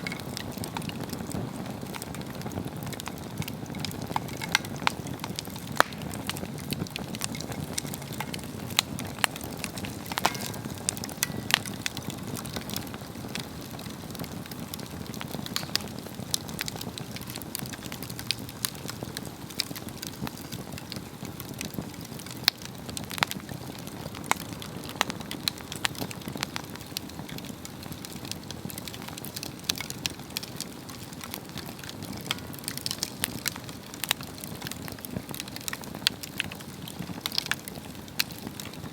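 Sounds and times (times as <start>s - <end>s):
low flame noise: 0.0s - 38.9s
wood crackling and popping: 0.0s - 38.9s.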